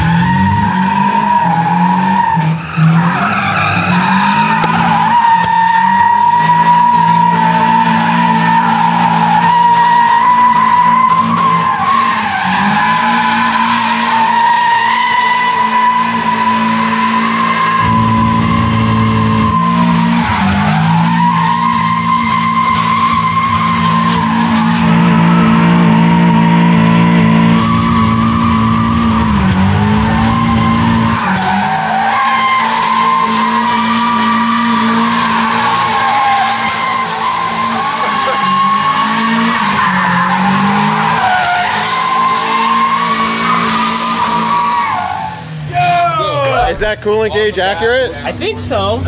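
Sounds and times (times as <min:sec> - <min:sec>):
high-revving engine: 0:00.0 - 0:47.0
tires squealing: 0:00.0 - 0:49.0.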